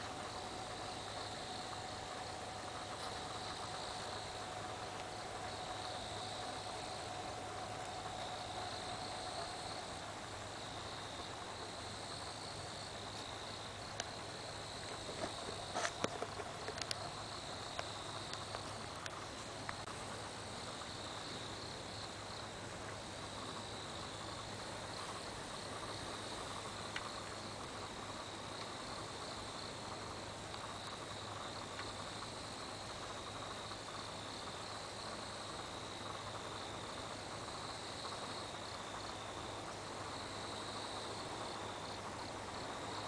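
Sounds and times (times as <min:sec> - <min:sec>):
crickets chirping: 0:00.0 - 0:43.0
low steady insect trill: 0:00.0 - 0:43.0.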